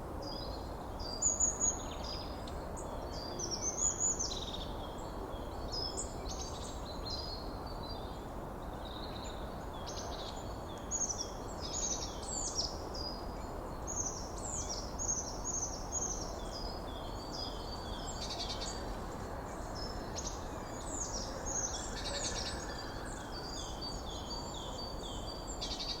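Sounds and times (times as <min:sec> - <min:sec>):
forest birds chirping and singing: 0:00.2 - 0:26.0.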